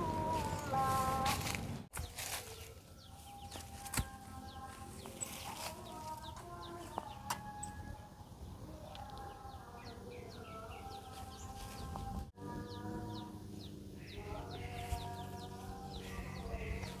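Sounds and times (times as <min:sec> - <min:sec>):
chickens calling: 0:00.0 - 0:17.0
small birds chirping: 0:00.0 - 0:17.0.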